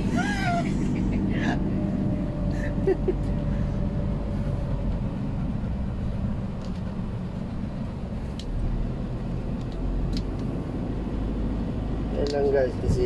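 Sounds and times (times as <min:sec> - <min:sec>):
road and engine rumble in van: 0:00.0 - 0:13.0.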